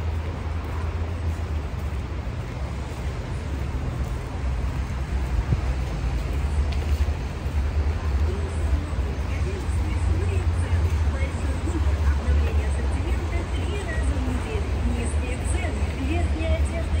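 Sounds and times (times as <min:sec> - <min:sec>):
cars passing: 0:00.0 - 0:17.0
low traffic rumble: 0:00.0 - 0:17.0.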